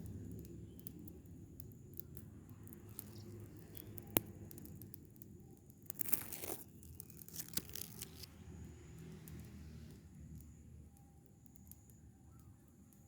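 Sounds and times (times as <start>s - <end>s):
fire crackling: 0.0s - 13.0s.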